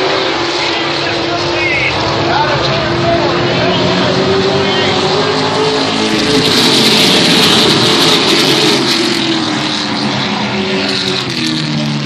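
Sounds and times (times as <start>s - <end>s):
race truck engines: 0.0s - 12.0s.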